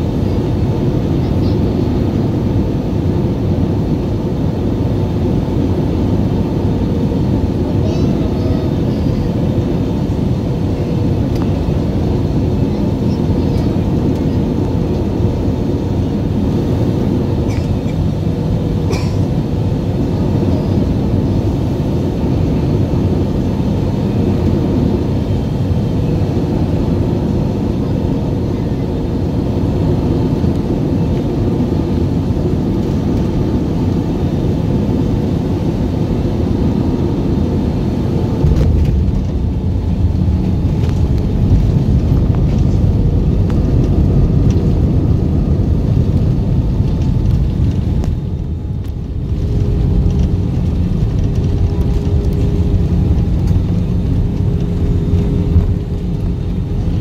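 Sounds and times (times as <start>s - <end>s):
jet engine and airflow: 0.0s - 57.0s.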